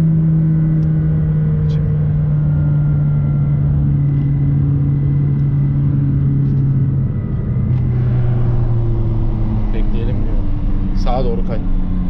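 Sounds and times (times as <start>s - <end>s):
car engine droning: 0.0s - 12.0s
road and wind noise: 0.0s - 12.0s.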